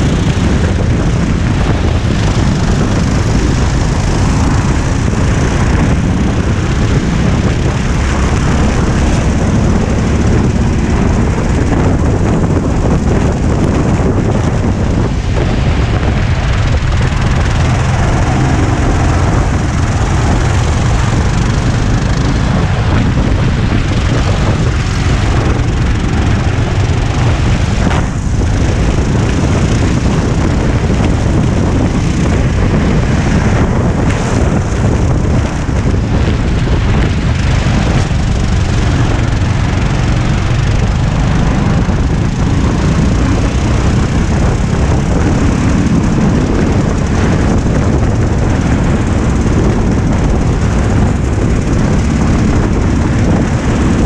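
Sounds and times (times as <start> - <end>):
go-kart engine running hard: 0.0 - 54.0
wind noise on microphone: 0.0 - 54.0.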